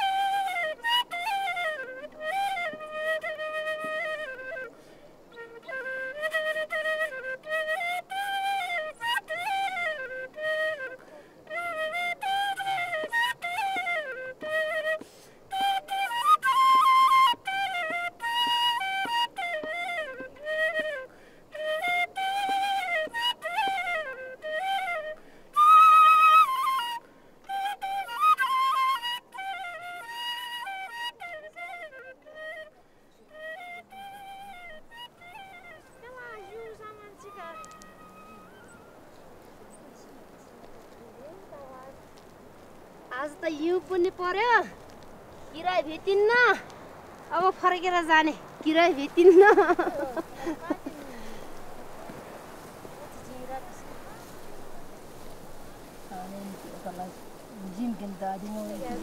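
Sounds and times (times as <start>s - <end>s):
solo flute melody: 0.0s - 59.0s.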